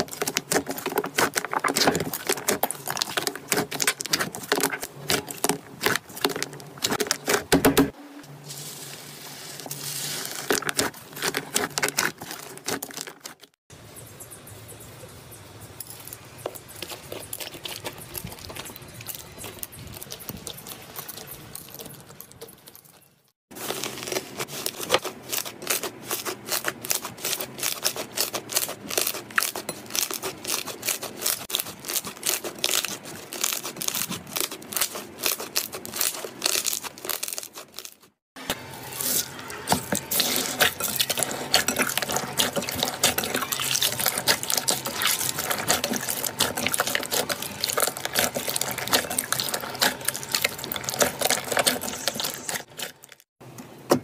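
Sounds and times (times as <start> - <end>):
hands squishing slime: 0.0 - 8.0, 9.7 - 13.5, 16.8 - 22.8, 23.6 - 38.1, 39.9 - 53.2.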